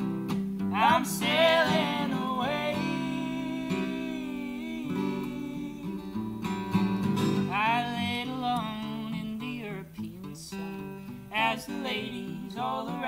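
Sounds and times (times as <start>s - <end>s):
acoustic guitars strumming: 0.0s - 13.0s
person singing: 0.7s - 6.7s, 7.4s - 13.0s.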